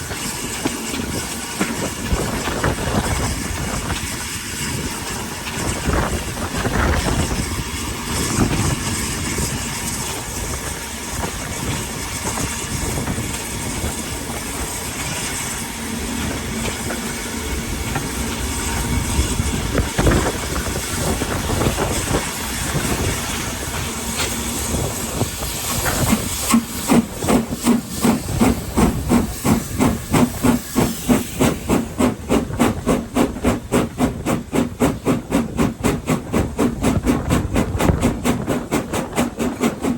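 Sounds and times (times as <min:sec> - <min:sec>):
steam hissing: 0:00.0 - 0:39.9
steam locomotive exhaust chuffing: 0:00.0 - 0:39.9.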